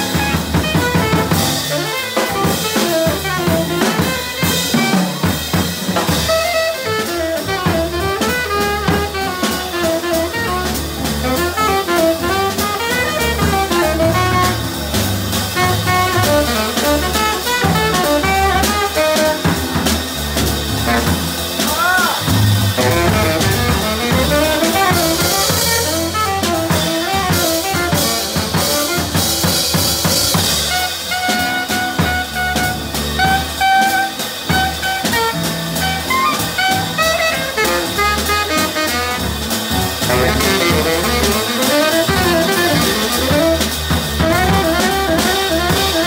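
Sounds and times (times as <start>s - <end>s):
cymbals: 0.0s - 46.0s
double bass: 0.0s - 46.0s
drum kit: 0.0s - 46.0s
piano: 0.0s - 46.0s
saxophone solo: 0.0s - 46.0s.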